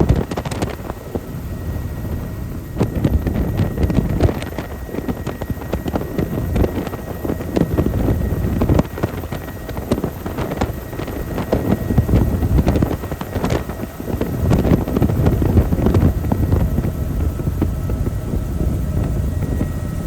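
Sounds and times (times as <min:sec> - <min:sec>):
helicopter in flight: 0:00.0 - 0:20.0
wind buffeting microphone: 0:00.0 - 0:20.0.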